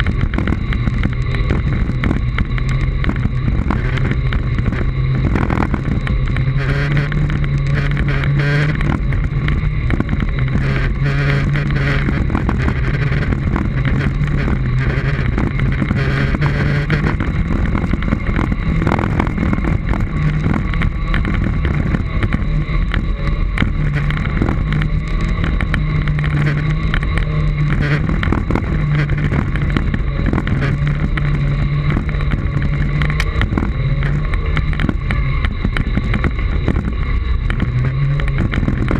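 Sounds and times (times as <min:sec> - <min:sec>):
electric motor hum: 0:00.0 - 0:38.9
tyres rumbling on dirt: 0:00.0 - 0:38.9.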